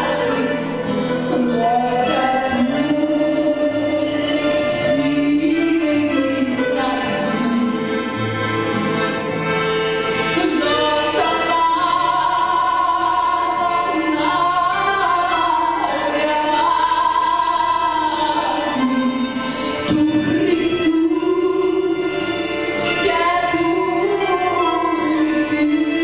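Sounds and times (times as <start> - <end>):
woman singing operatically: 0.0 - 8.0, 10.4 - 26.0
plucked strings and accordion: 0.0 - 26.0.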